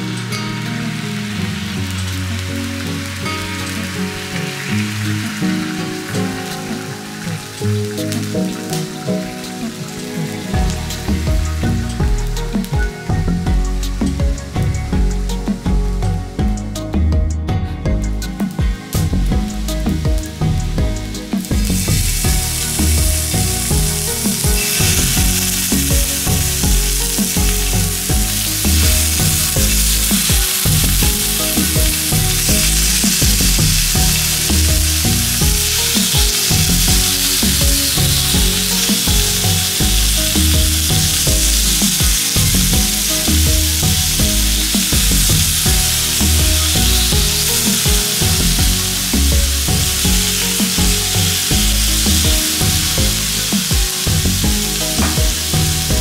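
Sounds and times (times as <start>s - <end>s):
chicken sizzling on grill plate: 0.0s - 17.0s, 18.1s - 56.0s.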